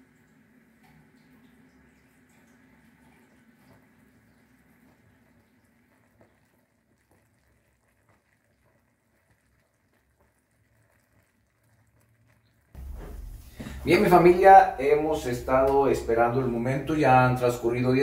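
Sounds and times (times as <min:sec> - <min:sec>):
faint bubbling of boiling syrup: 0:00.0 - 0:18.0.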